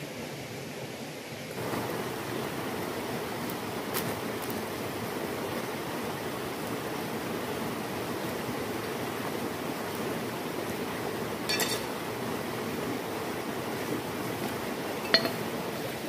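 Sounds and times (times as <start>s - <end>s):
river flowing over rocks: 1.6s - 16.0s.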